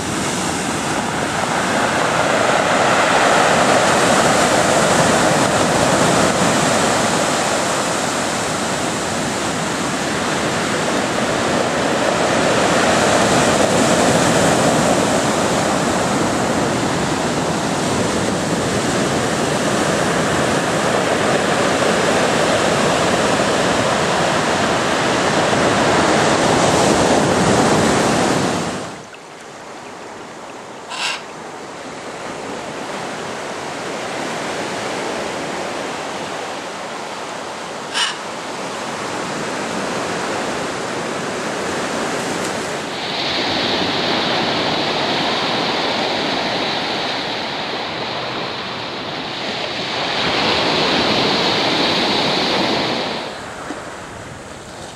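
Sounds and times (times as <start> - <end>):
ocean surf breaking on beach: 0.0 - 54.9.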